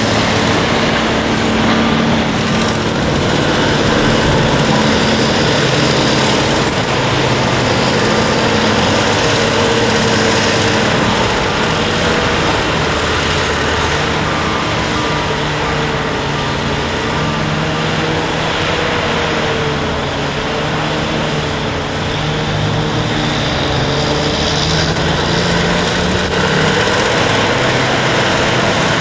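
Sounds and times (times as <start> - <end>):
heavy diesel engines running: 0.0 - 29.0.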